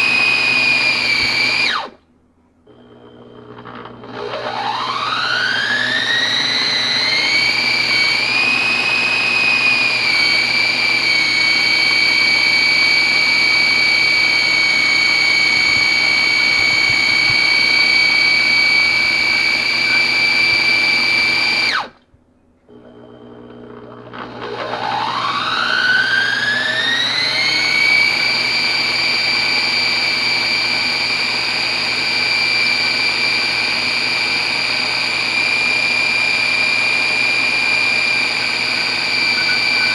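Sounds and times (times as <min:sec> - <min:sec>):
blender motor whining: 0:00.0 - 0:02.0, 0:02.7 - 0:22.0, 0:22.7 - 0:39.9.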